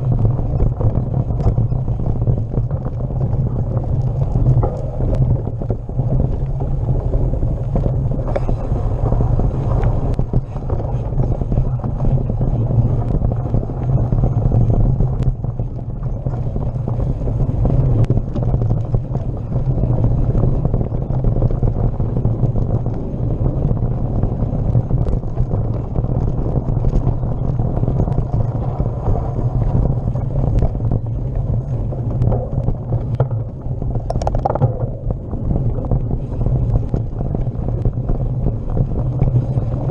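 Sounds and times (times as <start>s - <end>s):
bike rattles and ticks: 0.0s - 39.9s
mountain bike rolling on dirt: 0.0s - 39.9s
wind buffeting microphone: 0.0s - 39.9s.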